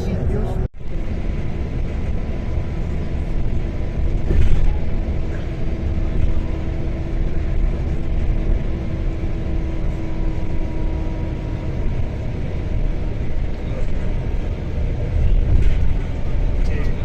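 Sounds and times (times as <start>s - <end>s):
motor vehicle engine and road noise: 0.0s - 17.0s.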